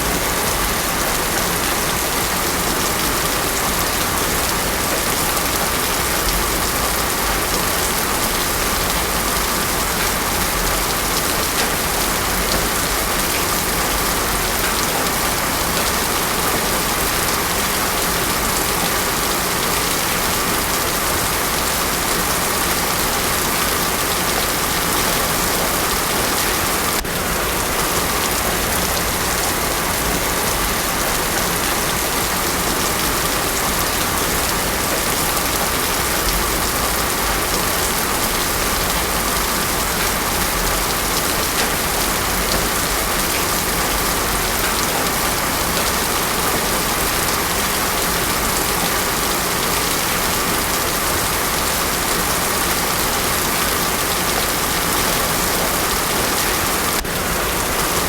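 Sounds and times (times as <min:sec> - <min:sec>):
heavy rain on a road: 0:00.0 - 0:58.0.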